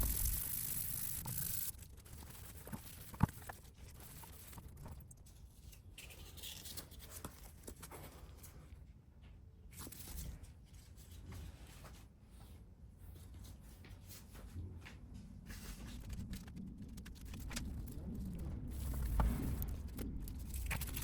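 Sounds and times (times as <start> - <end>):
scratching and handling noises: 0.0 - 21.0.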